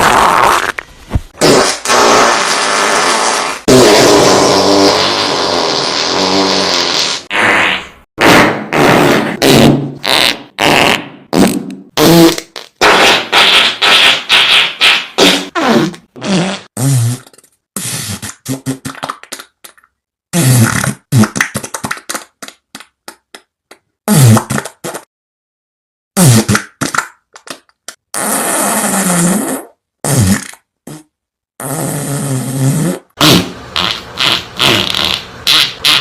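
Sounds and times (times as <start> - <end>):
fart sound effects: 0.0 - 19.3, 20.3 - 22.0, 24.1 - 25.1, 26.2 - 27.0, 28.1 - 36.0.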